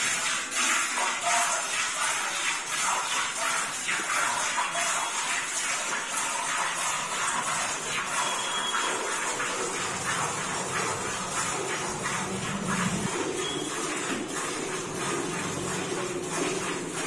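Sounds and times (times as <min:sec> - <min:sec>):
milk squirting into steel bucket: 0:00.0 - 0:17.0.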